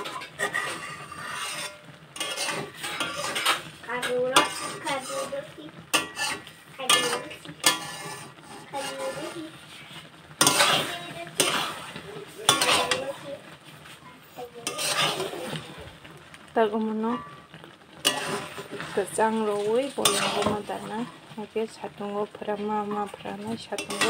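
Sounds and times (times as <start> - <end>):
spatula scraping metal pan: 0.0 - 16.1, 17.1 - 21.4, 22.8 - 24.0.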